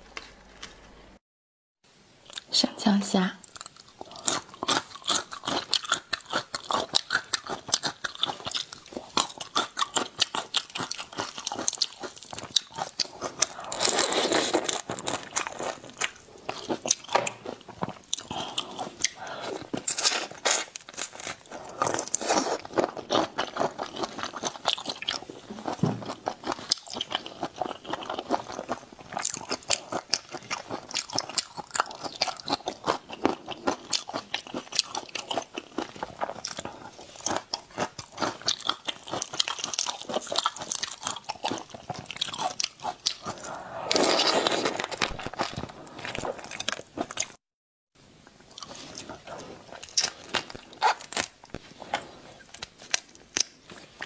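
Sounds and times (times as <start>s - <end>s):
chewing crunchy food: 3.4s - 47.4s, 48.4s - 54.0s.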